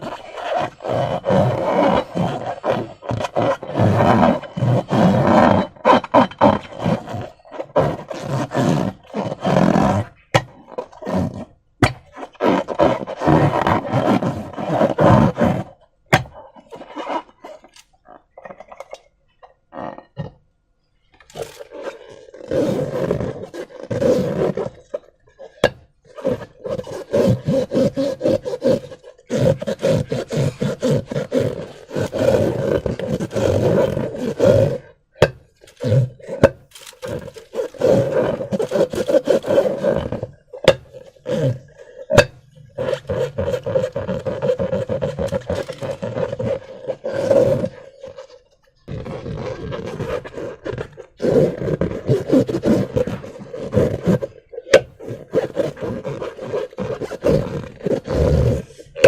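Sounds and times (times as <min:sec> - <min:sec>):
rubber balloons squeaking: 0:00.0 - 0:59.0.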